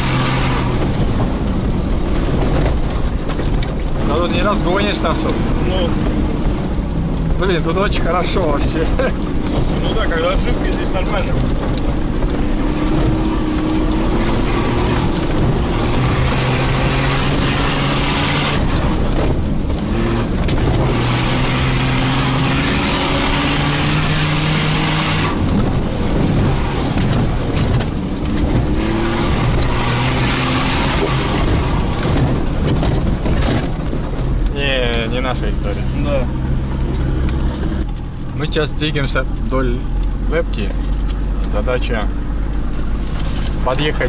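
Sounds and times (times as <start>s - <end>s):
engine revving: 0.0s - 44.0s.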